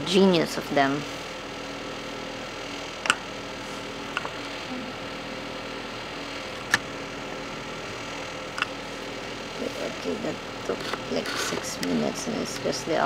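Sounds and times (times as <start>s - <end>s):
cooling appliance hum: 0.0s - 13.0s.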